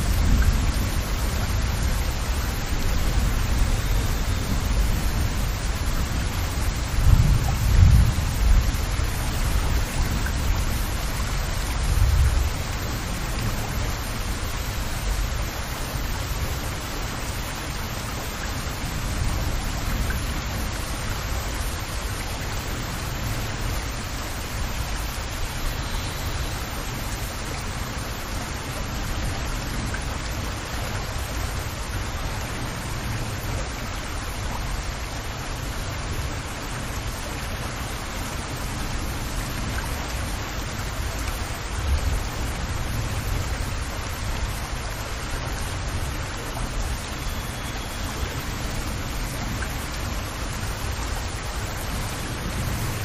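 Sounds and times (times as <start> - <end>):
rain falling on water: 0.0 - 53.0.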